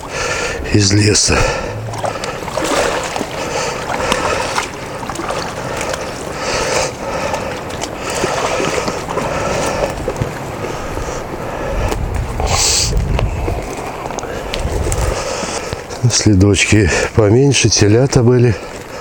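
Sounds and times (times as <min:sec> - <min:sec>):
squelching footsteps: 0:00.0 - 0:16.0
rustling wet leaves: 0:00.0 - 0:19.0
water running in a ditch: 0:00.0 - 0:19.0.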